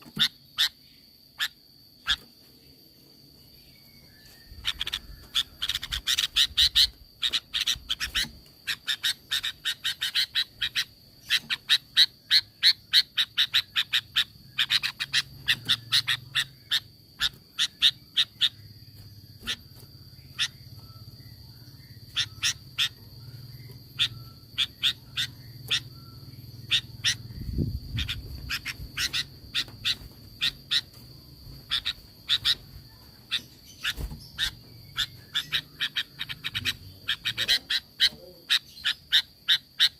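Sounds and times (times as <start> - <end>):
bulbul calling in rapid bursts: 0.0 - 2.3, 4.5 - 39.9.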